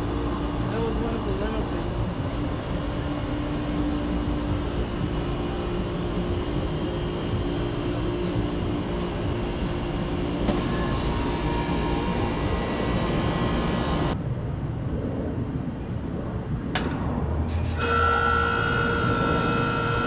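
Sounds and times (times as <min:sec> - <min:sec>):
higher steady tone: 0:00.0 - 0:14.2, 0:17.6 - 0:20.0
air conditioner units humming: 0:00.0 - 0:14.8, 0:15.5 - 0:20.0.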